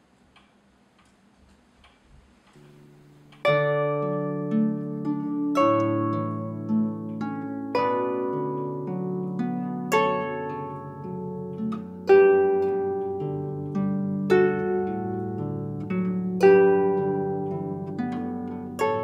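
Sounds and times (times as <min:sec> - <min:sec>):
harp playing: 0:02.6 - 0:19.0.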